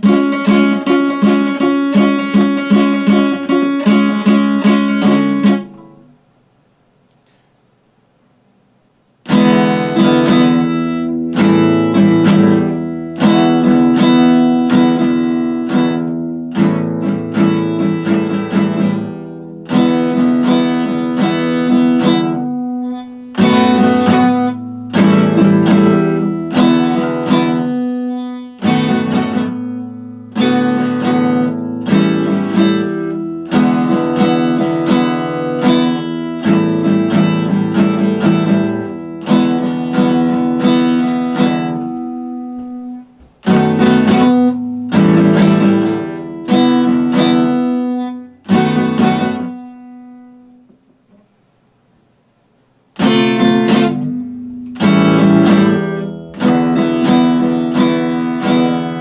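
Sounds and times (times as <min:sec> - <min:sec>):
acoustic guitar strummed: 0:00.0 - 0:06.3, 0:09.2 - 0:51.4, 0:52.8 - 0:59.0.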